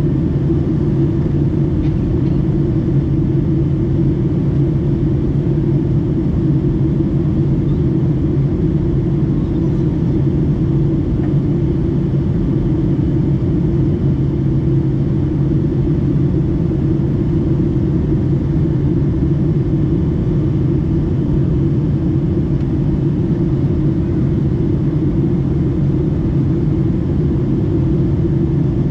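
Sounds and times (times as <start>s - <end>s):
airplane cabin drone: 0.0s - 28.9s.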